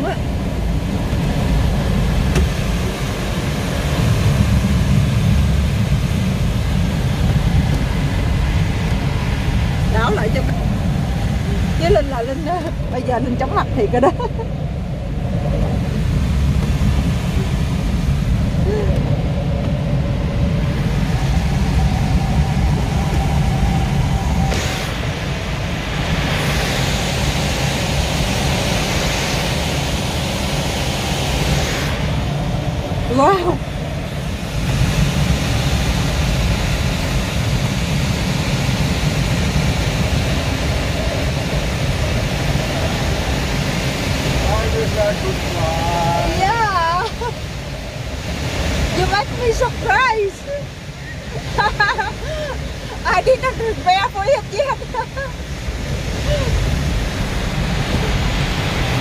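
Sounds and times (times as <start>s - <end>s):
rush of air in glider: 0.0s - 59.0s.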